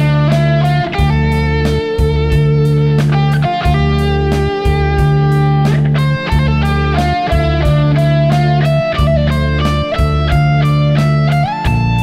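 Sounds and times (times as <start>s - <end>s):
backing track of drums and bass: 0.0s - 12.0s
electric guitar with string bends: 0.0s - 12.0s.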